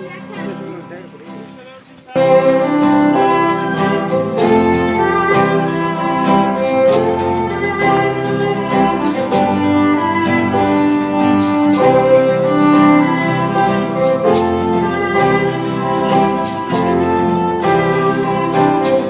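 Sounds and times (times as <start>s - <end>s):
violin and strings music: 0.0s - 19.0s.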